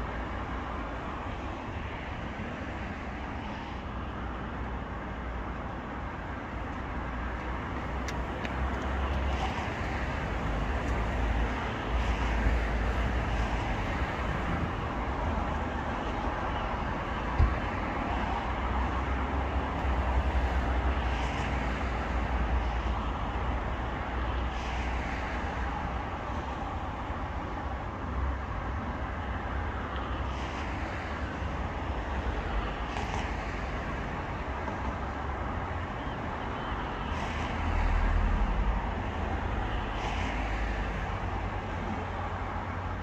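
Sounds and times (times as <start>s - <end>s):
road traffic hum: 0.0s - 43.0s.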